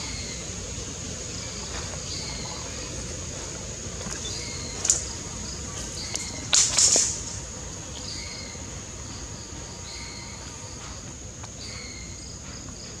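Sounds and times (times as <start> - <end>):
high-pitched insect drone: 0.0 - 12.5.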